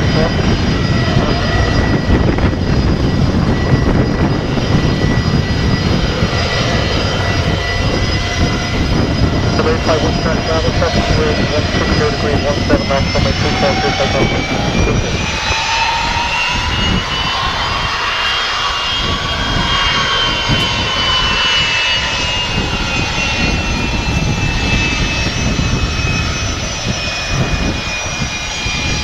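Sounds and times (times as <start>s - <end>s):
low rumble: 0.0s - 27.8s
jet engine whine: 0.0s - 29.0s.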